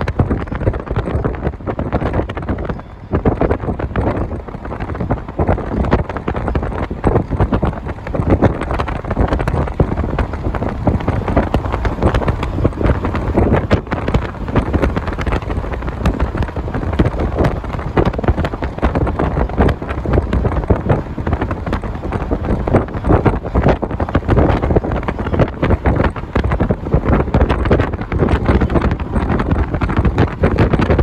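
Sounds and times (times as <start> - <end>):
road noise: 0.0 - 31.0
wind buffeting microphone: 0.0 - 31.0.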